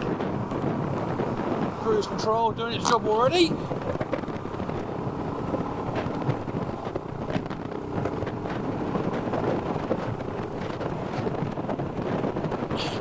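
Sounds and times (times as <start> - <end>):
motorcycle engine droning: 0.0 - 13.0
wind buffeting microphone: 0.0 - 13.0.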